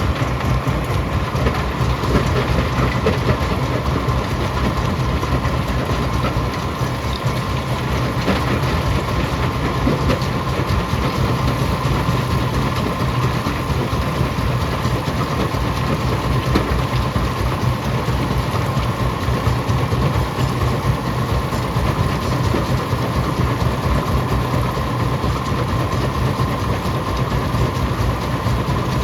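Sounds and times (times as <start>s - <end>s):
rock crusher running: 0.0s - 29.0s.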